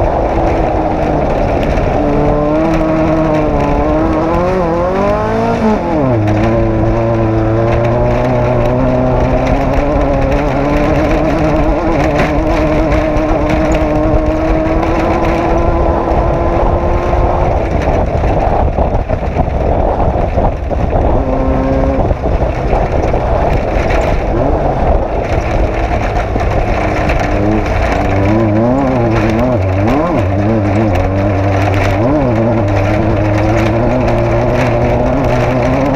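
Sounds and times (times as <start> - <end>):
race vehicle engine running hard: 0.0 - 35.9.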